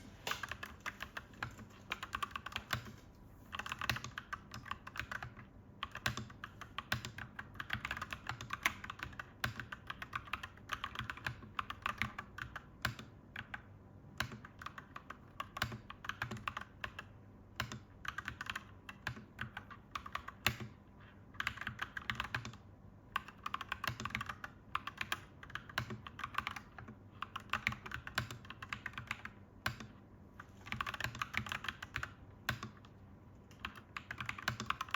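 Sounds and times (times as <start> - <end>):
mechanical keyboard typing: 0.3 - 34.9.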